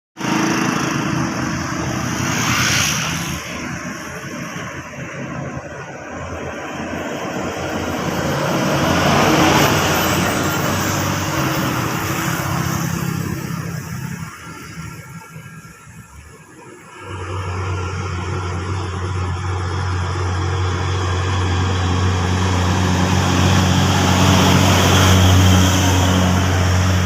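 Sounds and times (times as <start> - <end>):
trucks passing close by: 0.2 - 27.0.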